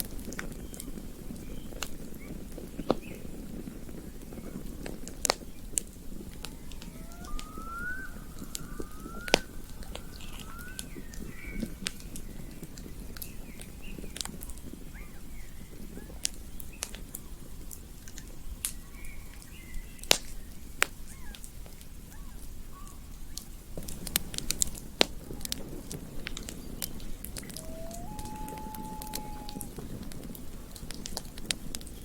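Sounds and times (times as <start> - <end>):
campfire crackling and popping: 0.0 - 18.8, 20.0 - 21.9, 23.3 - 32.0.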